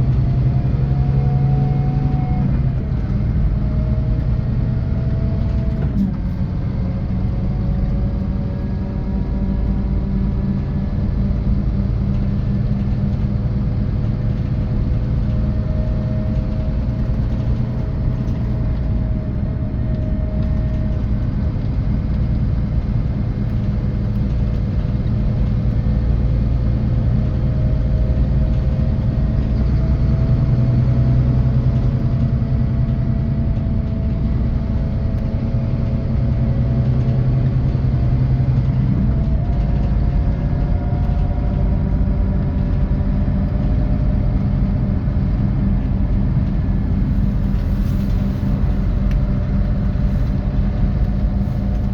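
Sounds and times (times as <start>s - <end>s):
coach engine low rumble: 0.0s - 51.9s.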